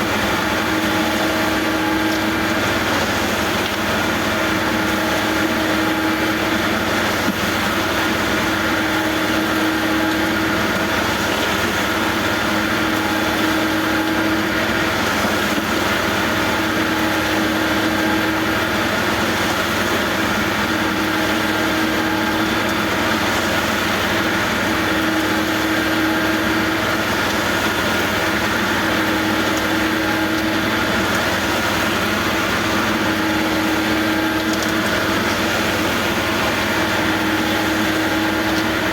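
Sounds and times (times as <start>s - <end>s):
construction machinery engine hum: 0.0s - 38.9s.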